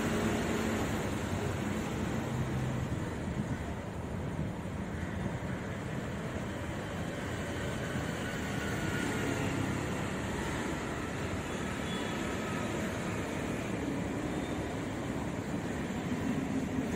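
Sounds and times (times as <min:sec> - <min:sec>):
train coaches rumbling on track: 0:00.0 - 0:16.9.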